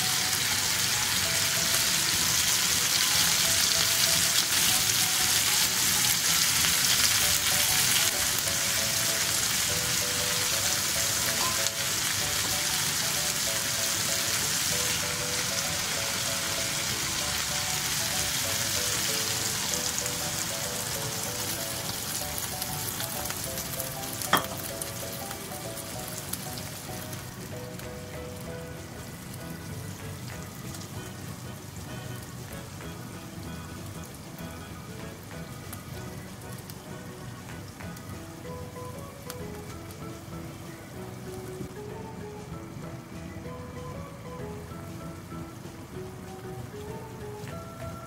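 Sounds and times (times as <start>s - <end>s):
food sizzling in a frying pan: 0.0s - 42.2s
soft background melody: 0.0s - 48.0s.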